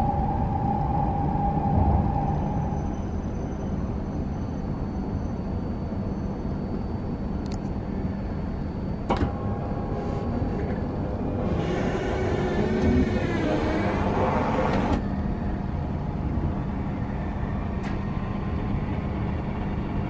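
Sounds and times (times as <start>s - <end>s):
train rumble inside cabin: 0.0s - 20.0s.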